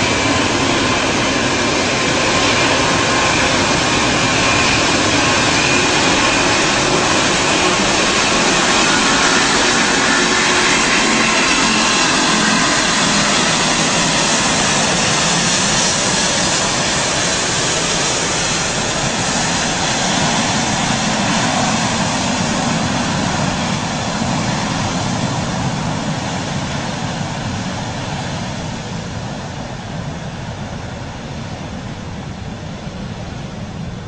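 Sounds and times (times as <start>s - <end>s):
jet engines at takeoff thrust: 0.0s - 34.0s.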